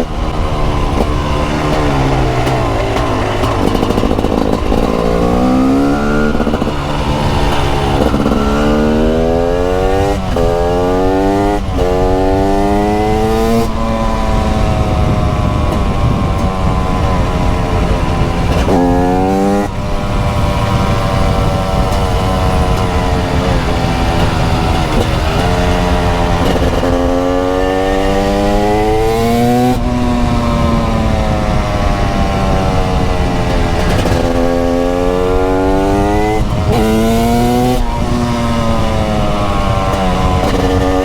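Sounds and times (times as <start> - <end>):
two-stroke motorcycle engine revving: 0.0 - 41.0
wind noise: 0.0 - 41.0.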